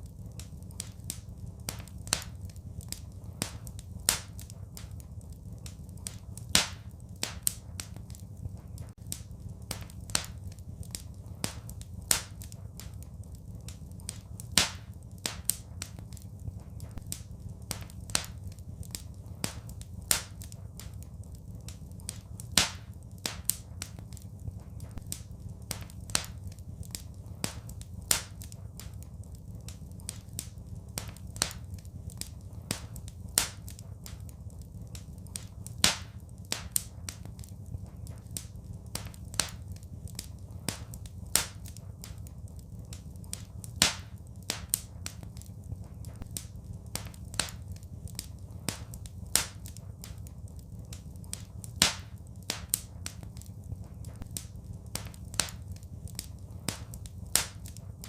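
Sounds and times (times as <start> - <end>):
fire low rumble: 0.0 - 58.0
wood fire popping: 0.0 - 58.0.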